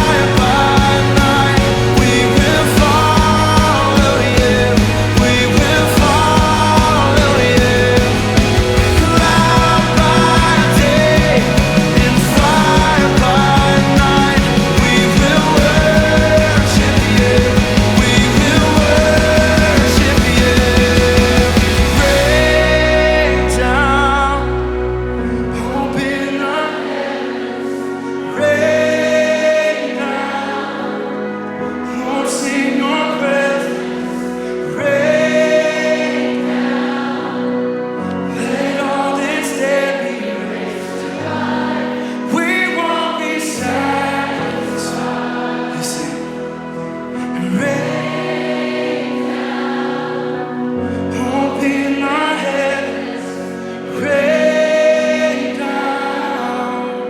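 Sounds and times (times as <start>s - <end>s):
band playing sustained chords: 0.0s - 57.0s
group of voices singing: 0.0s - 57.0s.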